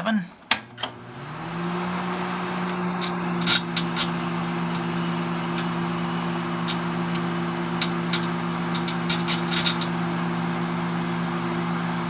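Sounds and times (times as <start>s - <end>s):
microwave oven humming: 0.5s - 12.0s.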